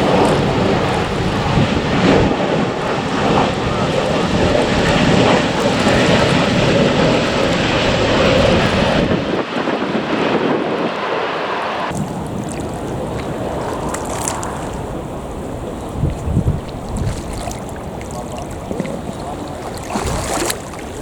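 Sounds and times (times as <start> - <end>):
airliner engine passing: 0.0 - 21.0
wind on microphone: 0.0 - 21.0.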